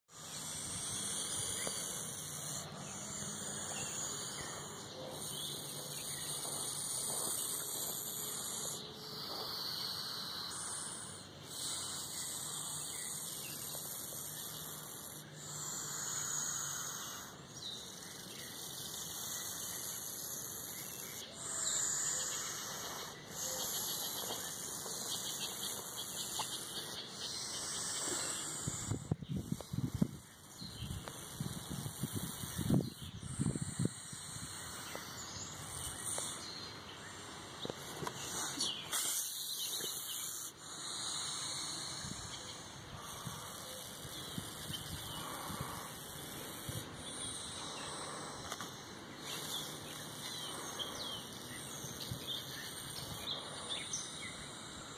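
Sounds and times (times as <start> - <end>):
snake hissing: 0.1 - 54.9.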